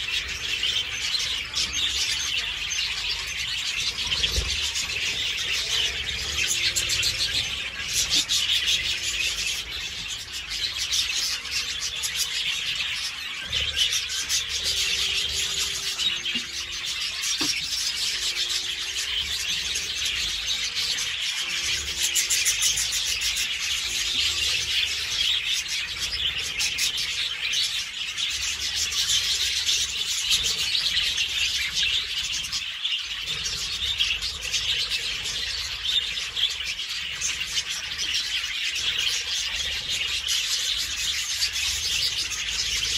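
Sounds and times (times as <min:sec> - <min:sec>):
flock of budgerigars twittering: 0:00.0 - 0:42.9.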